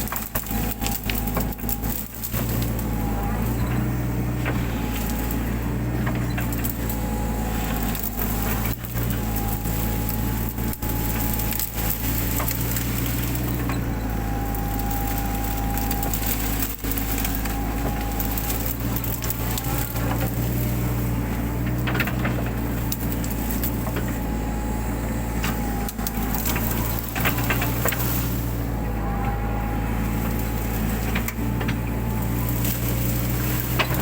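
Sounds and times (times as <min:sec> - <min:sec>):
brush cracking and snapping: 0:00.0 - 0:34.0
excavator engine running: 0:00.0 - 0:34.0.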